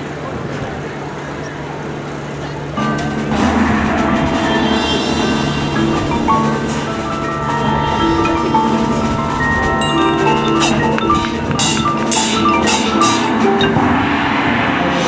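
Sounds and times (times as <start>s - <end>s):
mallet percussion melody: 2.8s - 15.0s
marching band playing chords: 2.8s - 15.0s
sharp percussion accents: 2.8s - 15.0s.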